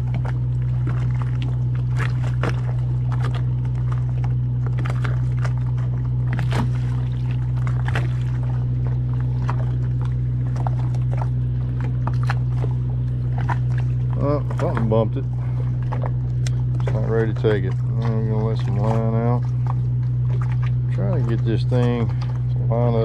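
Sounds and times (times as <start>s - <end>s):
boat machinery humming: 0.0s - 23.0s.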